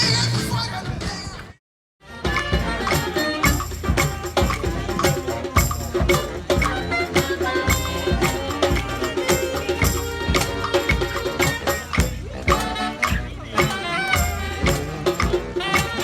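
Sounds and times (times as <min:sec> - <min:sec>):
instrumental music with beat: 0:02.0 - 0:16.0
hand percussion: 0:02.1 - 0:16.0.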